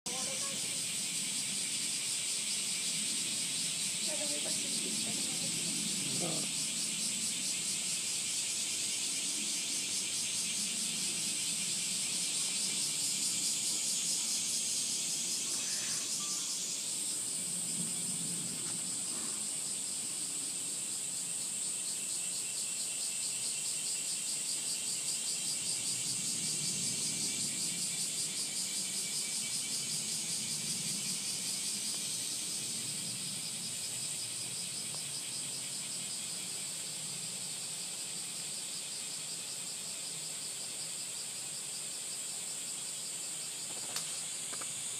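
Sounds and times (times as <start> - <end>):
insects chirping: 0.1 - 44.9.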